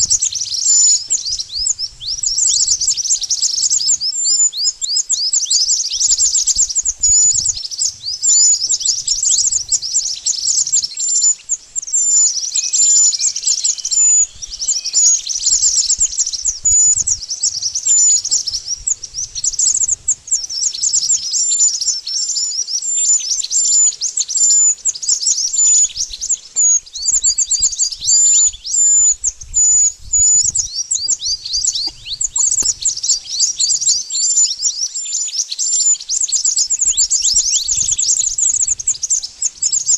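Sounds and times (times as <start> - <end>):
bird singing high sweeping chirps: 0.0 - 39.9.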